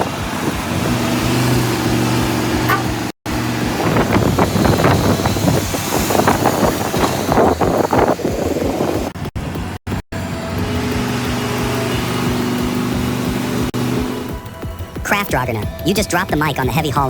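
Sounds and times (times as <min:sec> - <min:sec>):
heavy vehicle engine humming: 0:00.0 - 0:16.9
rough irregular vehicle noise: 0:00.0 - 0:17.0.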